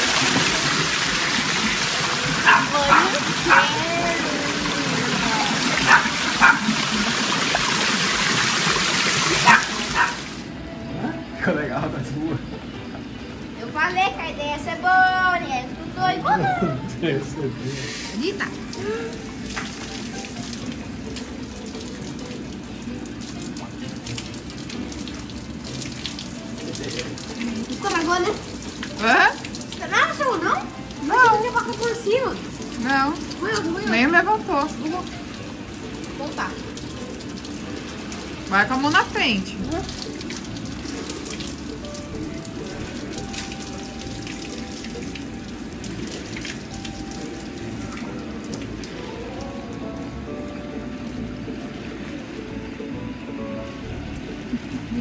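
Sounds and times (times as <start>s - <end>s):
water rushing into a tub: 0.0s - 10.6s, 17.3s - 52.5s.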